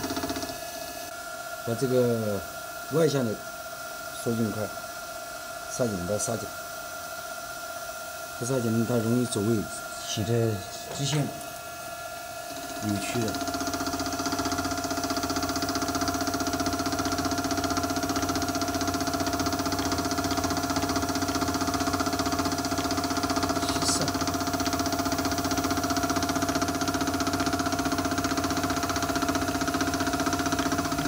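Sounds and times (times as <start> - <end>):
drill-milling machine humming with whine: 0.0 - 31.0.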